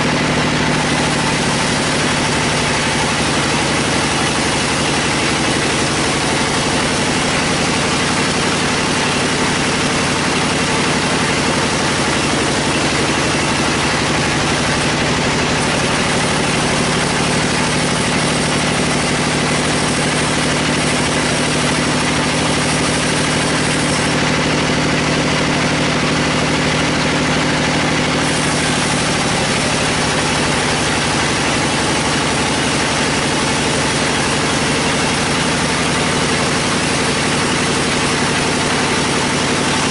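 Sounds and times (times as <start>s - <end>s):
band saw cutting a log: 0.0s - 39.9s.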